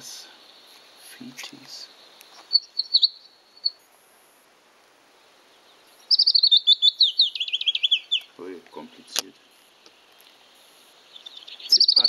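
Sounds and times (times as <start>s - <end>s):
recorded birdsong through small speaker: 0.0s - 3.9s, 5.2s - 12.0s.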